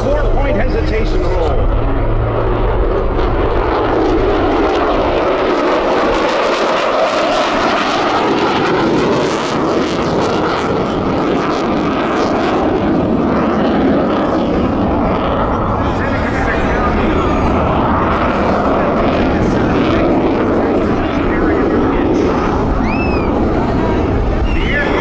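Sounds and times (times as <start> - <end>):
fighter jet engine roar: 0.0 - 25.0.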